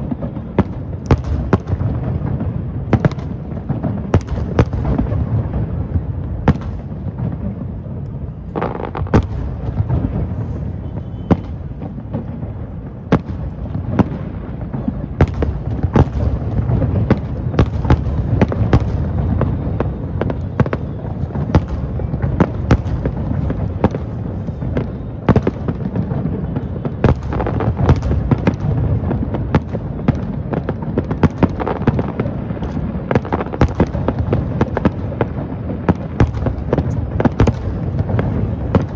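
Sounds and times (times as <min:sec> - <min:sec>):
low rumble of firework bursts: 0:00.0 - 0:38.9
sharp firework bangs: 0:00.0 - 0:38.9.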